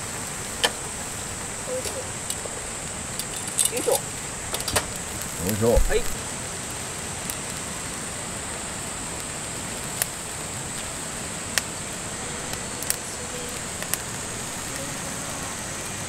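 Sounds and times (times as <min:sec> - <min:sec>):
campfire crackling: 0:00.0 - 0:16.0
sharp snaps of fire: 0:00.0 - 0:16.0
stream rushing: 0:00.0 - 0:16.0.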